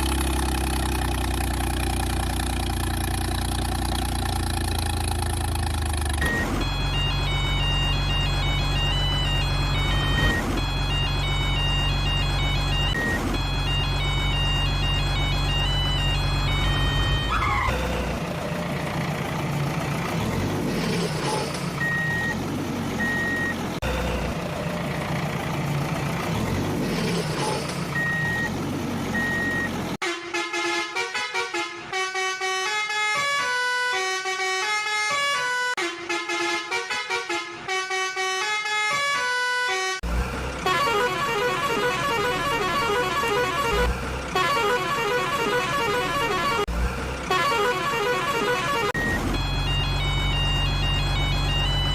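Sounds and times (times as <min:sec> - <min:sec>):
truck engine: 0:00.0 - 0:51.9.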